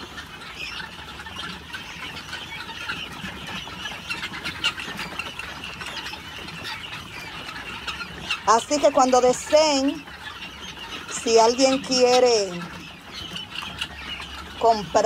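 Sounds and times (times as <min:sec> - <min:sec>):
chicks chirping in chorus: 0:00.0 - 0:15.0.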